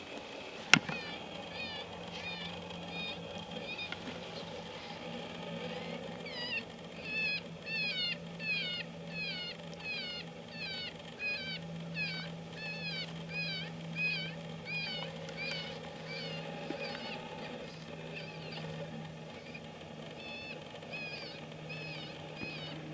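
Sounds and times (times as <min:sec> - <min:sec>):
electronic animal distress call: 0:00.8 - 0:22.9.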